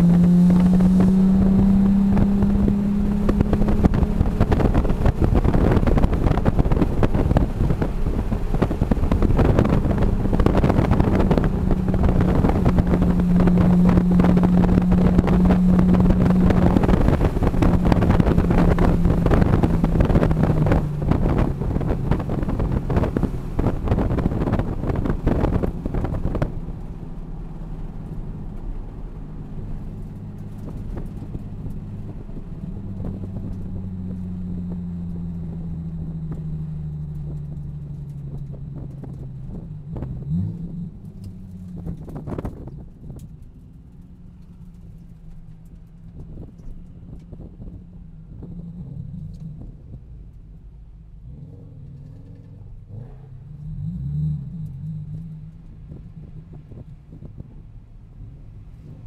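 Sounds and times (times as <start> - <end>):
car engine cruising: 0.0 - 59.0
road noise: 0.0 - 59.0
wind noise: 0.0 - 59.0.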